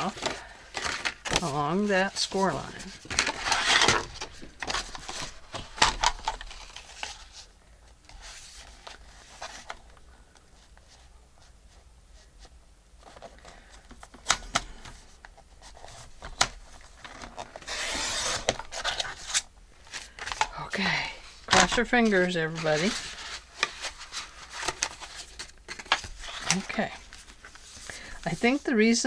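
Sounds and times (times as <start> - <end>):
paper rustling: 0.0 - 7.5, 13.0 - 29.0.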